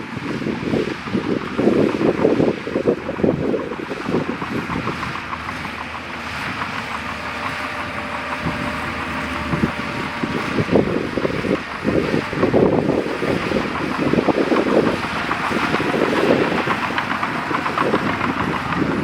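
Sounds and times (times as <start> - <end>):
diesel engine running: 0.0 - 19.0
wind buffeting microphone: 0.0 - 19.0.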